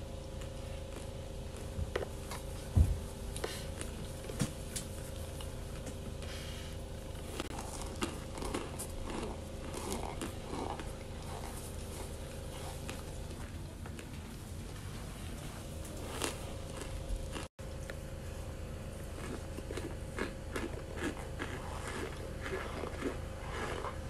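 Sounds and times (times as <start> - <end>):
steady low hum: 0.0 - 24.0
crunchy chewing: 0.1 - 18.0, 18.9 - 24.0.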